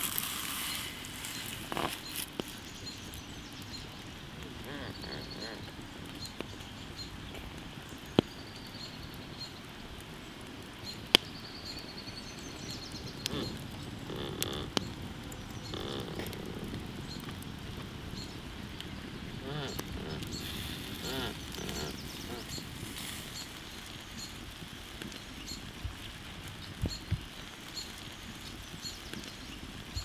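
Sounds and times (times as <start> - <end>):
sharp pops of embers: 0.0 - 29.9
birds chirping faintly: 0.0 - 30.0
charcoal embers crackling: 0.0 - 30.0.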